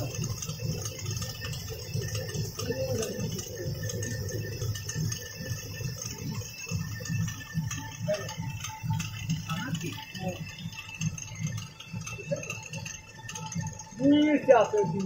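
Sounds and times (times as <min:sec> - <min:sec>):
fast irregular knocking: 0:00.0 - 0:15.0
stone mill grinding rumble: 0:00.0 - 0:15.0.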